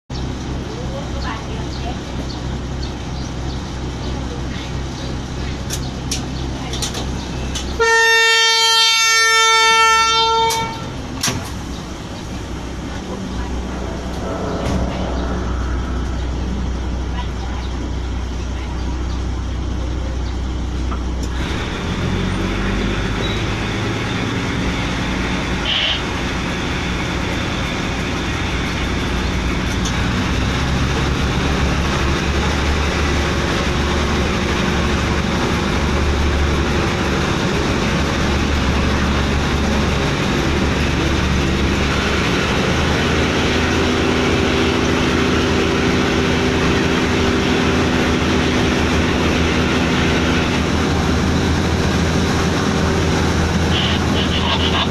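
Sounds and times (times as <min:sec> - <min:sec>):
diesel locomotive engine running: 0:00.1 - 0:54.9
train rolling on rails: 0:00.1 - 0:54.9.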